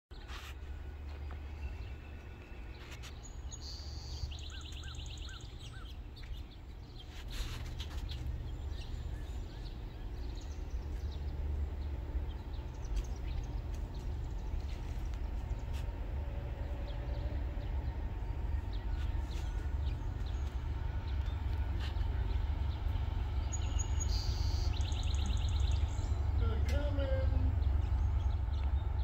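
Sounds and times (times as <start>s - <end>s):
birds chirping: 0.1s - 29.0s
steady low rumble: 0.2s - 29.0s.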